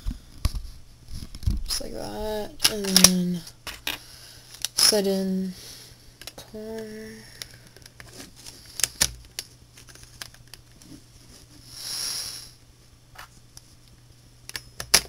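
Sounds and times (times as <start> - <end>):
soft hiss: 0.0 - 14.4.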